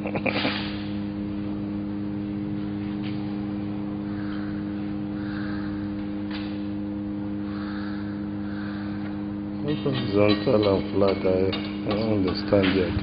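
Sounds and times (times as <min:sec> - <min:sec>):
machine low hum: 0:00.0 - 0:13.0.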